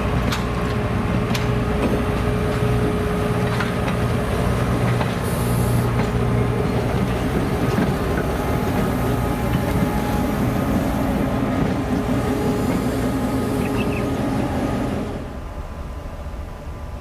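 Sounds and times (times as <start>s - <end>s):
diesel locomotive engine drone: 0.0s - 17.0s
train rumble: 0.0s - 17.0s.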